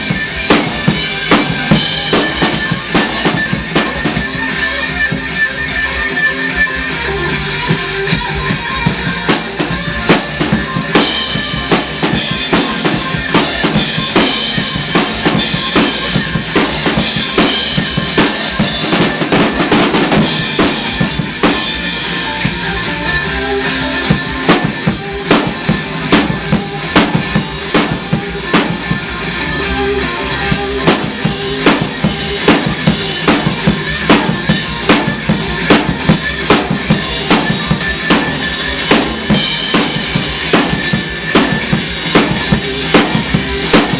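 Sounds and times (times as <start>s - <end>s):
bass drum and snare hits: 0.0s - 4.4s, 8.9s - 22.0s, 24.1s - 29.0s, 30.8s - 43.9s
rock music: 0.0s - 43.9s
sustained guitar tones: 0.0s - 43.9s.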